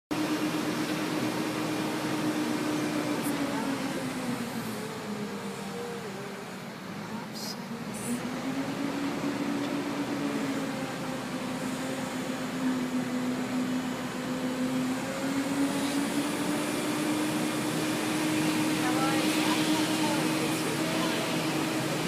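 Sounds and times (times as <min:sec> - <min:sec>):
engine running steadily: 0:00.1 - 0:22.0.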